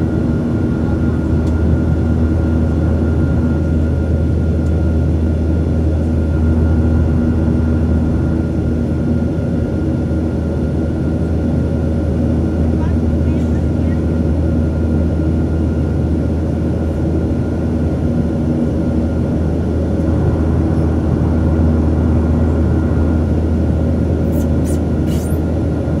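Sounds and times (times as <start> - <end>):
jet engines droning in cabin: 0.0 - 26.0.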